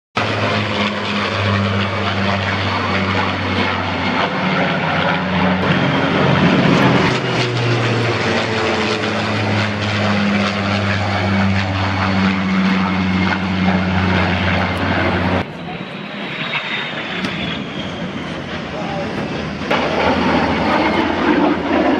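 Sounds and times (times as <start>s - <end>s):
aircraft engine drone: 0.2s - 21.9s
low hum: 0.2s - 21.9s.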